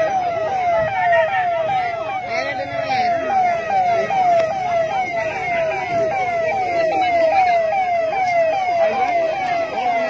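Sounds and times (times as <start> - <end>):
electronic emergency siren: 0.0 - 10.0.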